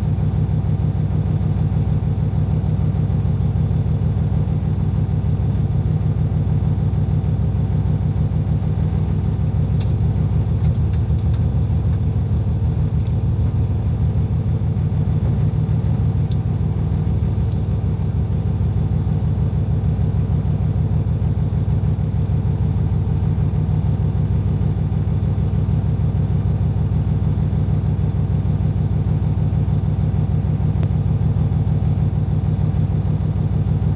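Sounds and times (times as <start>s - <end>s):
truck diesel engine running: 0.0s - 33.9s.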